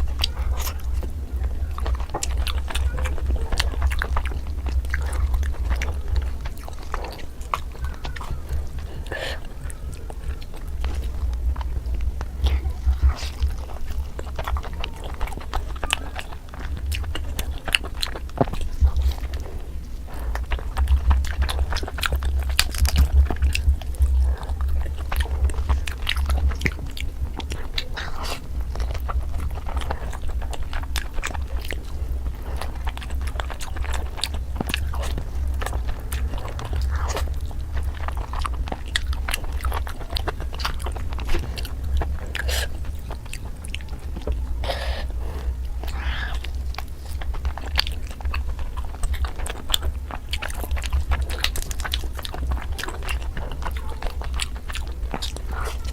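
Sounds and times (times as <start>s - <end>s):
close chewing and biting: 0.0s - 55.9s
low hum: 0.0s - 55.9s.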